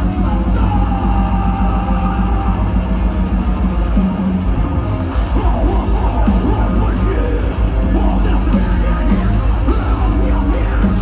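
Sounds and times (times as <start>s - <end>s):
bass guitar: 0.0s - 11.0s
distorted guitars: 0.0s - 11.0s
drums: 0.0s - 11.0s.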